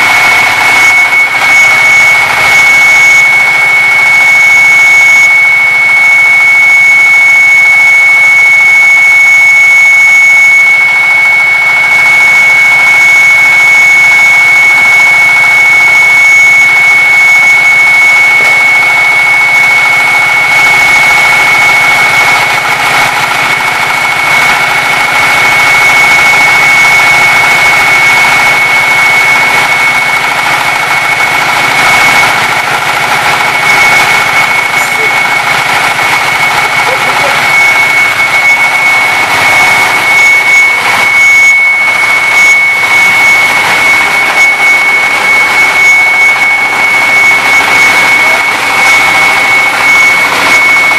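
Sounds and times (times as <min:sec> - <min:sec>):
concrete cutter engine whining: 0:00.0 - 0:50.9
gritty cutting noise: 0:00.0 - 0:50.9.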